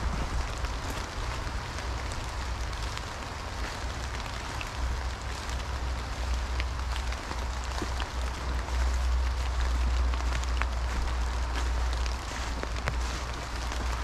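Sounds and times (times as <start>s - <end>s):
footsteps through wet leaves: 0.0s - 14.0s
low rumble: 0.0s - 14.0s
rain patter: 0.0s - 14.0s.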